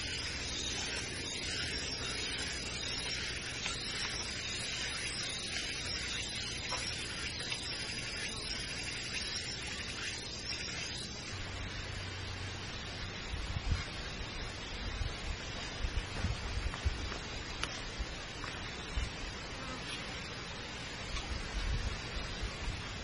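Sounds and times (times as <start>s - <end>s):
steady high hiss of forest: 0.0s - 23.0s.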